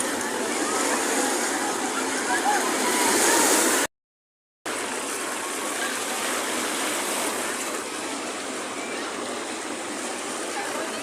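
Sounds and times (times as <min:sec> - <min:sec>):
sea surf washing on shore: 0:00.0 - 0:03.9, 0:04.7 - 0:11.0.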